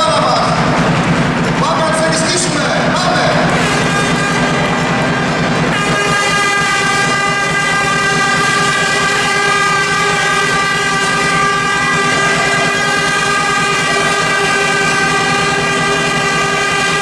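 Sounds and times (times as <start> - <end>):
crowd noise: 0.0 - 17.0
loud steady horn tone: 0.0 - 17.0.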